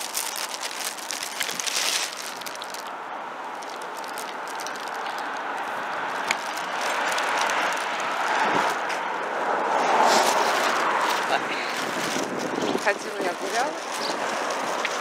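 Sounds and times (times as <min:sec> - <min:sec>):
car passing: 0:00.1 - 0:15.0.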